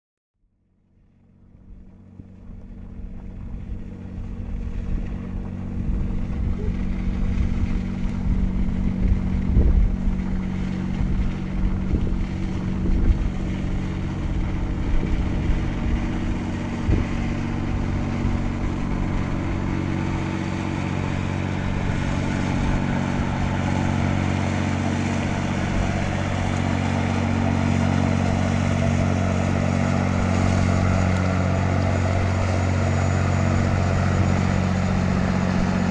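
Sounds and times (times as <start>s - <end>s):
diesel boat engine drone: 0.4s - 35.9s
wind buffeting microphone: 1.6s - 35.9s.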